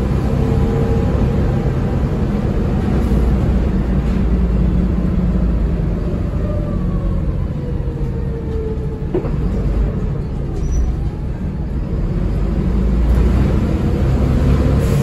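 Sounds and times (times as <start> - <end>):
bus diesel engine rumble: 0.0 - 15.0
road noise: 0.0 - 15.0.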